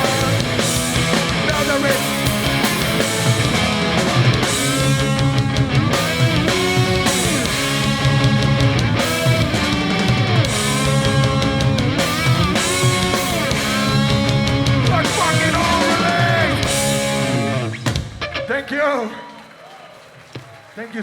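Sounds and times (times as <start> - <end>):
bass: 0.0 - 18.6
drum hits: 0.0 - 18.7
distorted electric guitars: 0.0 - 18.8.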